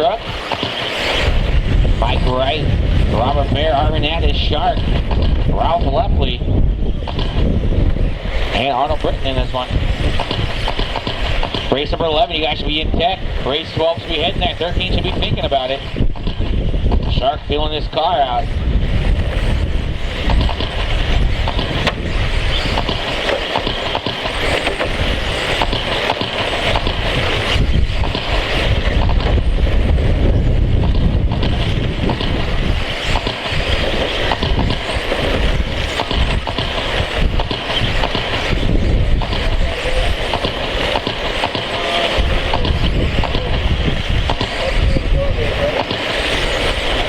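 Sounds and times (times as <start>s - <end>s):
rc truck motors whining: 0.0s - 47.0s
wind rumble on microphone: 0.0s - 47.0s.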